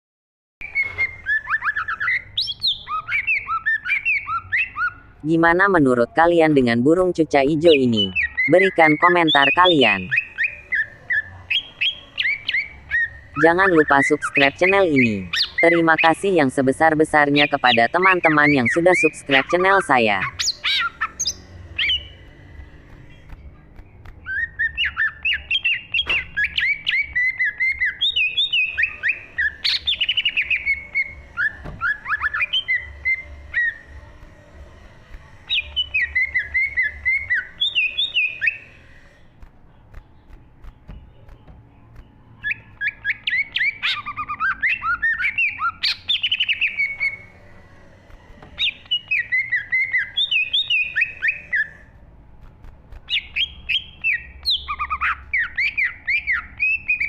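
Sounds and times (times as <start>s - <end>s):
bird singing whistled notes: 0.6s - 5.2s, 7.5s - 23.4s, 24.2s - 34.8s, 35.4s - 39.1s, 42.4s - 47.4s, 48.6s - 51.8s, 53.1s - 57.0s.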